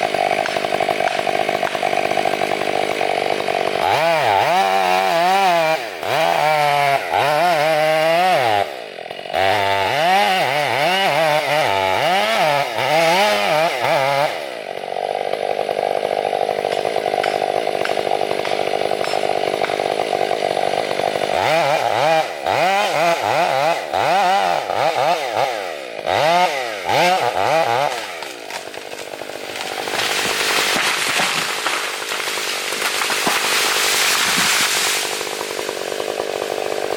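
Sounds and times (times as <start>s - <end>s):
chainsaw revving: 0.0s - 36.9s.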